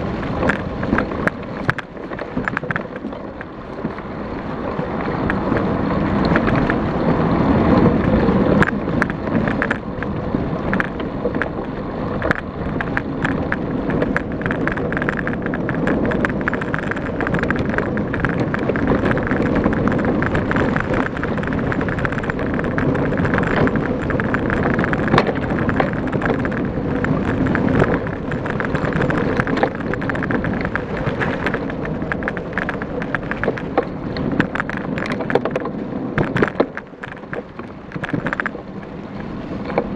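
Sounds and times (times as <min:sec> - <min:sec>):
bike rattling and clicking: 0:00.0 - 0:39.9
tyres rolling over leaves and dirt: 0:00.0 - 0:39.9
wind rushing over microphone: 0:00.0 - 0:39.9.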